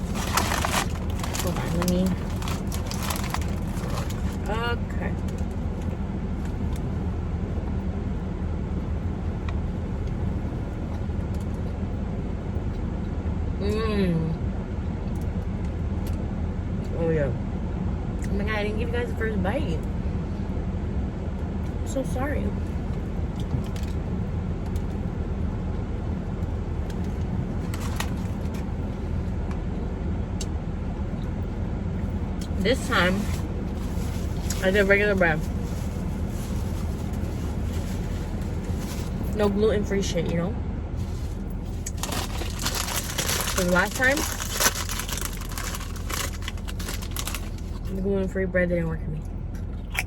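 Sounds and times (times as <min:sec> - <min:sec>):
car air conditioning hum: 0:00.0 - 0:50.0.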